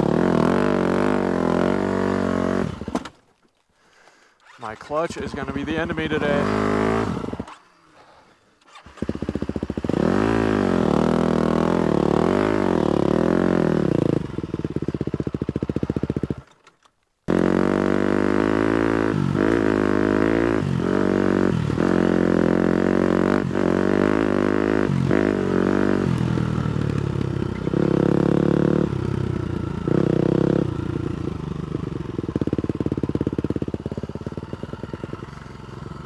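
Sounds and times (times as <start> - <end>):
dirt bike engine revving: 0.0 - 3.0, 4.4 - 7.7, 8.7 - 16.4, 17.3 - 36.0.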